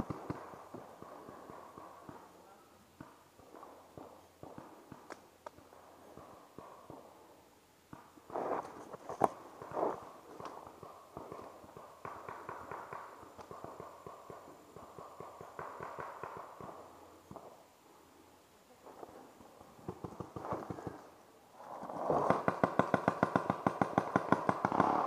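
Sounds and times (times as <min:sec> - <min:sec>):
rapid paintball fire: 0:00.0 - 0:02.3, 0:03.0 - 0:07.2, 0:07.9 - 0:17.7, 0:19.7 - 0:25.0.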